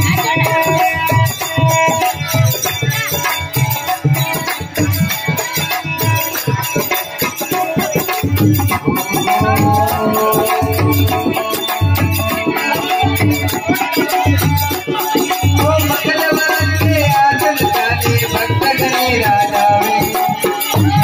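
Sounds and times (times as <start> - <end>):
hand drum beating: 0.0 - 21.0
harmonium chords: 0.0 - 21.0
jingling hand percussion: 0.0 - 21.0.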